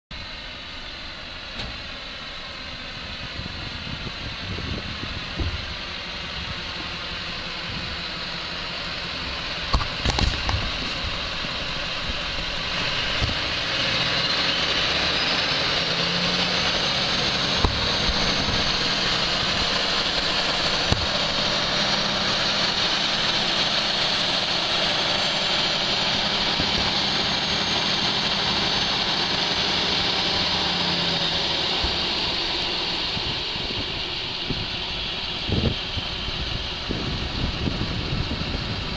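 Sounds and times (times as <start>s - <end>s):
diesel truck engine running: 0.1s - 38.9s.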